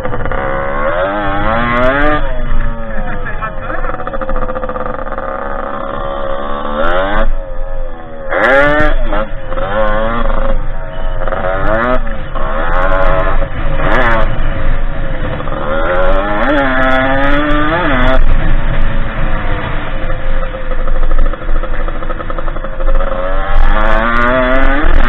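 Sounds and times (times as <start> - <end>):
two-stroke dirt bike engine revving: 0.0 - 25.0.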